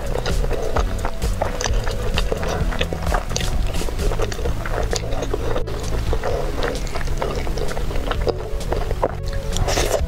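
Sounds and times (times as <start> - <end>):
low steady background tones: 0.0 - 10.0
person chewing food: 0.0 - 10.0
wet clicks and smacks: 0.0 - 10.0.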